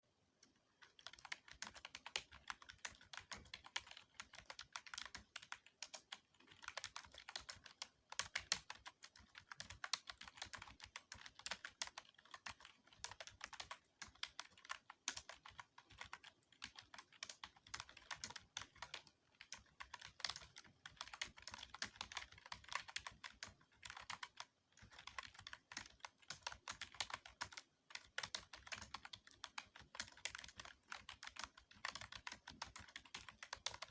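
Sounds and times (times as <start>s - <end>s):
rapid keyboard typing: 0.4s - 33.9s.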